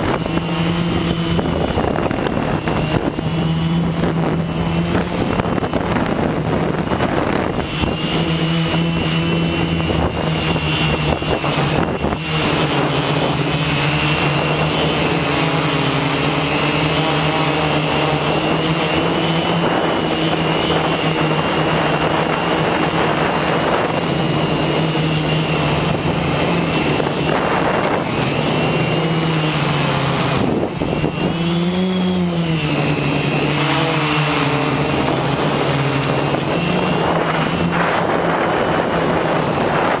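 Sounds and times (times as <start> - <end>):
drone propellers buzzing: 0.0 - 40.0.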